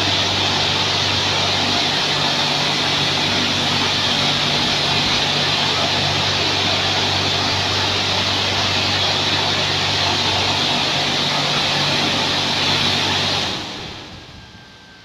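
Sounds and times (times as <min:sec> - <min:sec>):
pump motor humming: 0:00.0 - 0:14.9.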